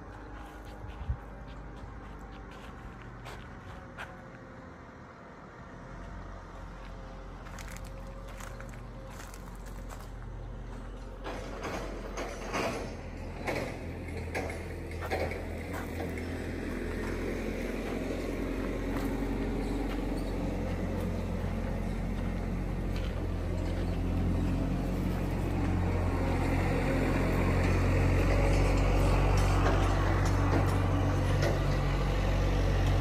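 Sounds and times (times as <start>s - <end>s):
large engine idling: 6.0s - 33.0s.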